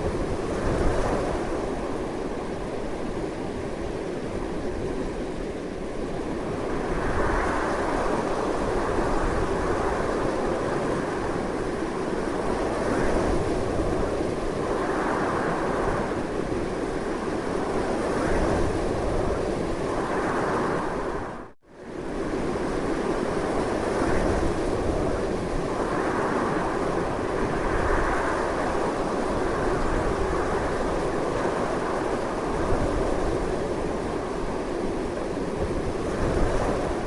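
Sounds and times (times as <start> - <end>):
strong wind: 0.0 - 37.0.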